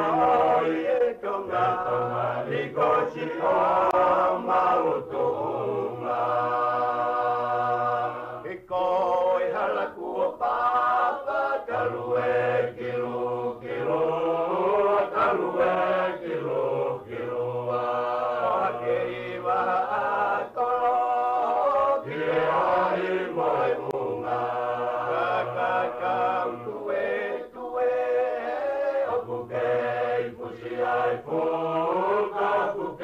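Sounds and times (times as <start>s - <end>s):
voices singing in harmony: 0.0s - 33.0s.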